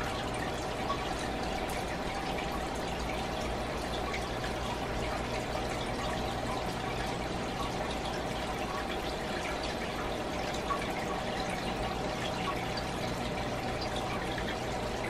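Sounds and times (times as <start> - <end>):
aquarium water trickling and splashing: 0.0 - 15.0
low steady hum: 0.0 - 15.0
small drip plinks: 0.0 - 15.0.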